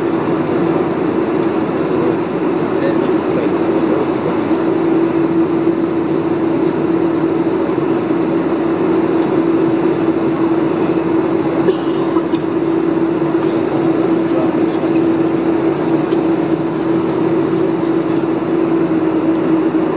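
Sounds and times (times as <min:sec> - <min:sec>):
airplane cabin drone: 0:00.0 - 0:19.9.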